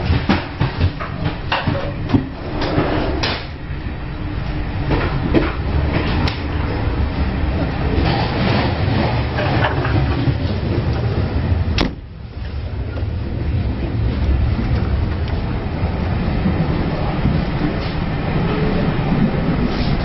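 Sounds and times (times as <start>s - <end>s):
train carriage rumbling: 0.0s - 20.0s.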